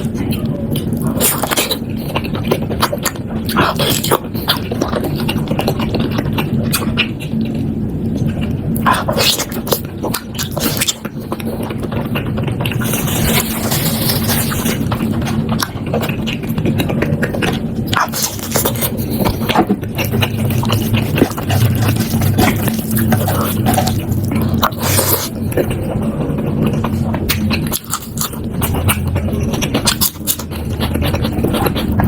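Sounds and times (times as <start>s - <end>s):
low steady hum: 0.0s - 32.0s
wet chewing and slurping: 0.0s - 32.0s.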